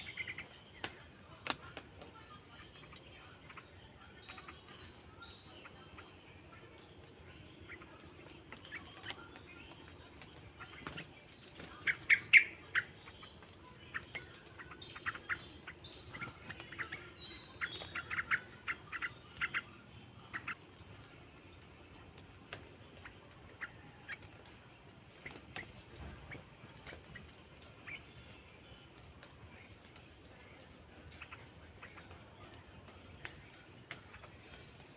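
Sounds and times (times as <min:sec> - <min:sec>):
bird chirping: 0:00.0 - 0:01.4, 0:02.1 - 0:34.9
insects trilling: 0:00.0 - 0:34.9.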